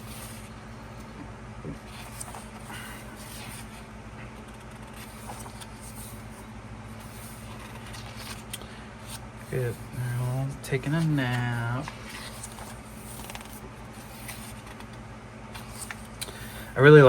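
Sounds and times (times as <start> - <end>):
low electrical hum: 0.0 - 17.0
pages rustling and tapping: 1.7 - 9.6, 10.7 - 16.7.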